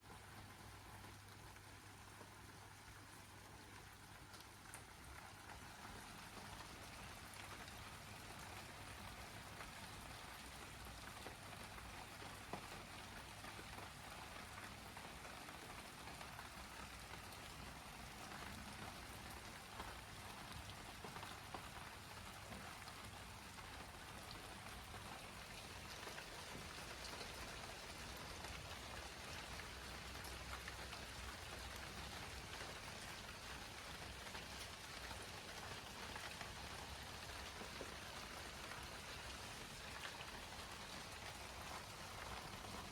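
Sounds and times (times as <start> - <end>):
steady rain falling: 0.0 - 42.9
raindrops ticking: 0.6 - 42.9.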